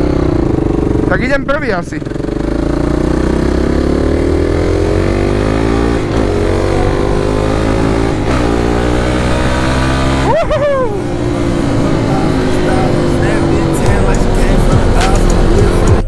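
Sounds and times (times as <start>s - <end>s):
quad engine accelerating: 0.0s - 16.0s.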